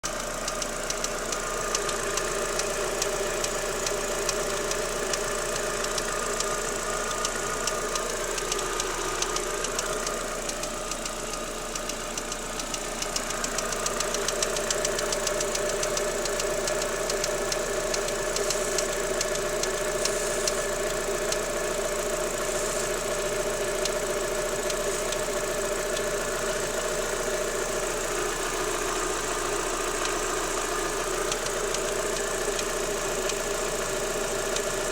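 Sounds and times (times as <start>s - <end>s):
car engine ticking knock: 0.0s - 34.9s.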